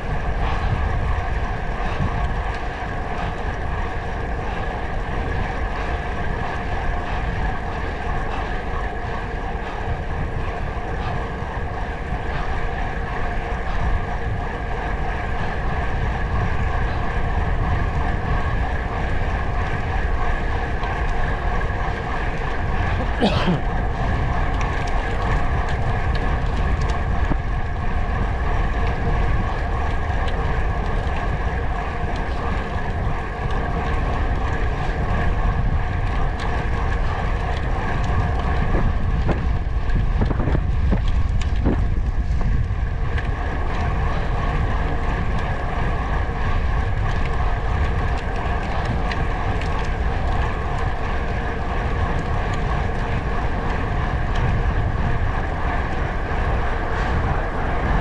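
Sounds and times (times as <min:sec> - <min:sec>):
steady vehicle hum: 0:00.0 - 0:58.0
wind buffeting microphone: 0:00.0 - 0:58.0.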